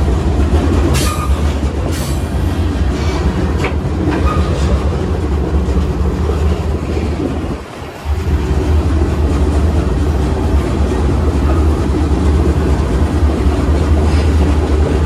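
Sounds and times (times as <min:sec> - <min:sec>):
freight train low rumble: 0:00.0 - 0:15.0
wheels clacking over rail joints: 0:00.0 - 0:15.0.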